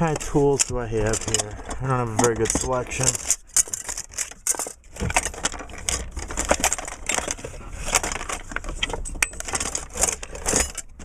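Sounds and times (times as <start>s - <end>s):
metal tools clinking: 0.0s - 11.0s.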